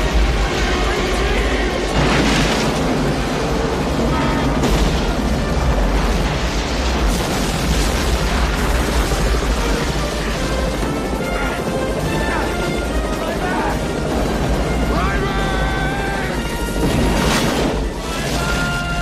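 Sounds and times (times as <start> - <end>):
deep rumble of explosions: 0.0 - 19.0
music: 0.0 - 19.0.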